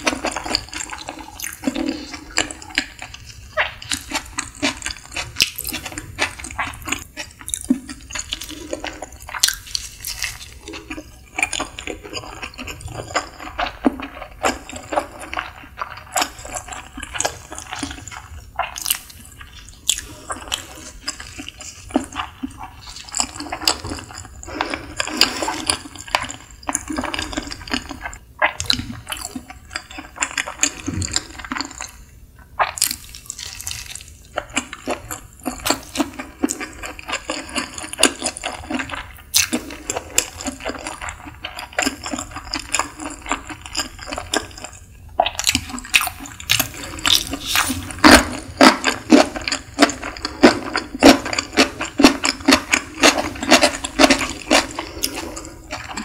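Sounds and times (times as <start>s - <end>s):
wet chewing mouth sounds: 0.0s - 56.0s.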